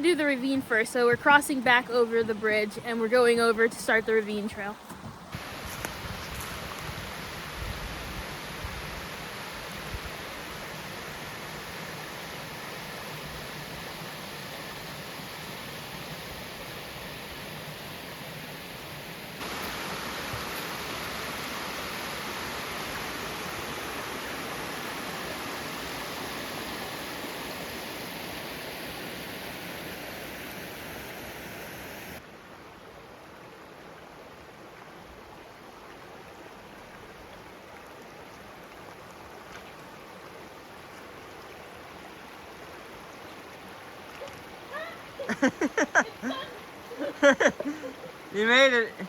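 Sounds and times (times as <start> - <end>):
creek water rushing: 0.0 - 49.0.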